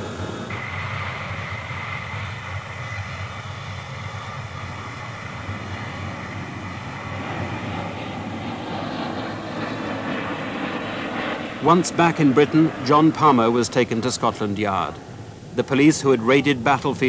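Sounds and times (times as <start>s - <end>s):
high whine: 0.0s - 17.0s
jet engines running: 0.0s - 17.0s.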